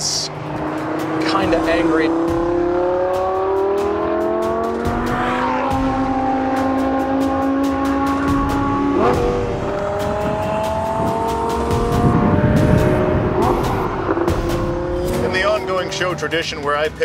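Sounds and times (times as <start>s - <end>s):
car engine accelerating hard: 0.3s - 16.6s.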